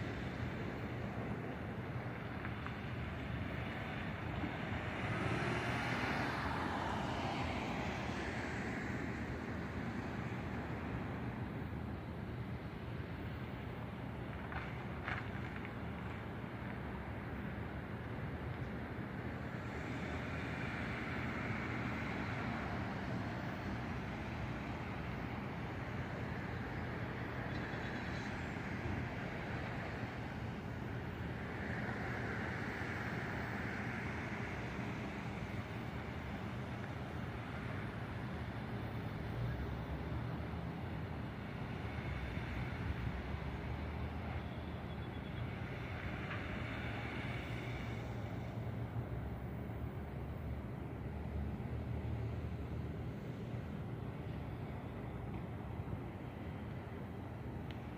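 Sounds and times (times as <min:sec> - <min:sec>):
background traffic hum: 0:00.0 - 0:57.9
cars passing: 0:00.0 - 0:57.9.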